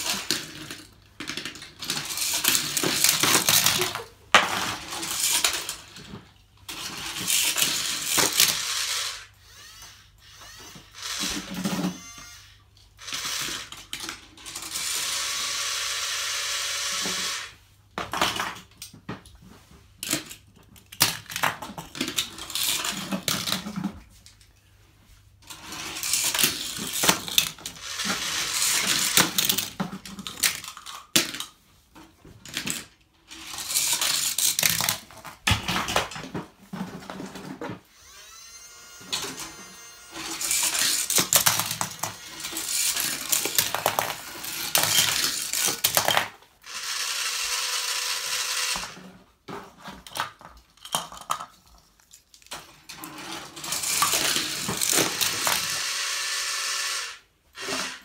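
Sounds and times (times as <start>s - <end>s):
toy cars rattling down plastic track: 0.0s - 18.9s, 20.0s - 24.0s, 25.4s - 31.6s, 32.4s - 58.0s.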